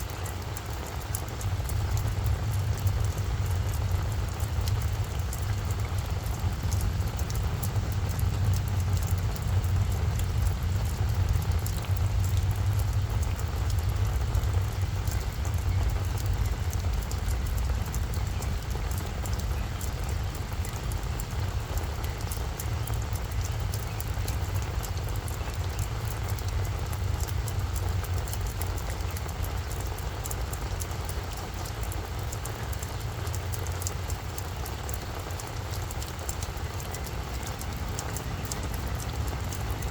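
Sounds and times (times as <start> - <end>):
raindrops pattering: 0.0 - 39.9.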